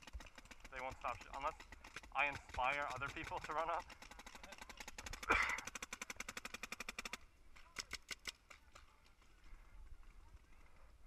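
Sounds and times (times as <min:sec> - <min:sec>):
paintball markers rapid fire: 0:00.0 - 0:09.1.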